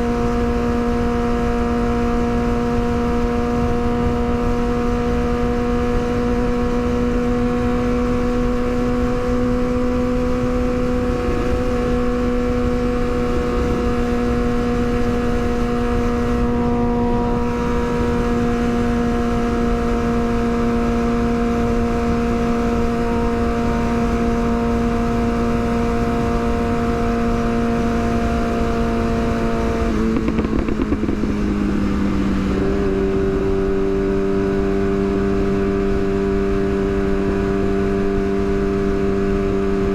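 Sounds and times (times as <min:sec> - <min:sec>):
motorcycle engine running high: 0:00.0 - 0:39.9.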